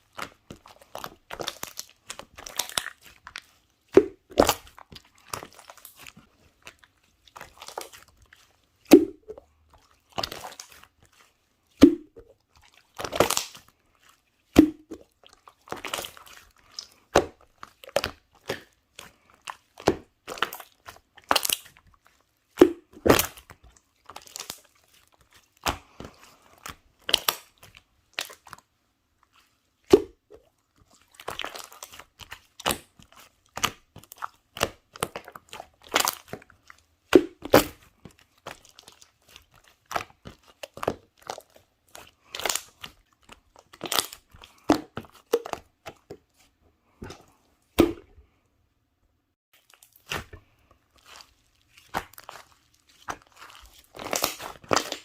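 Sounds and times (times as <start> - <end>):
crisp crunching and crackling: 0.0 - 29.9, 30.6 - 45.8, 49.5 - 55.0.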